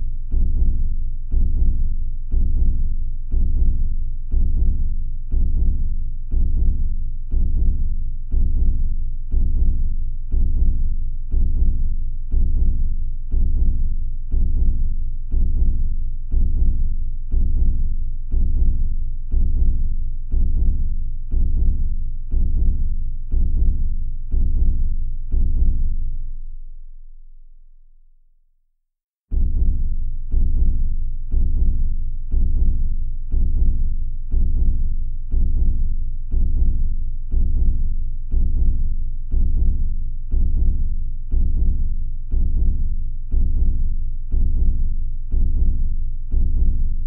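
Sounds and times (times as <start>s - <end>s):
heartbeat double thump: 0.0s - 25.9s, 29.3s - 47.0s.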